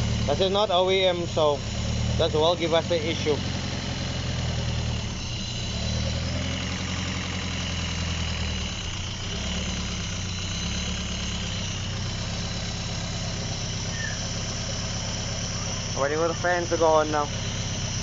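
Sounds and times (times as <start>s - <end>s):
car engine idling loudly: 0.0s - 18.0s.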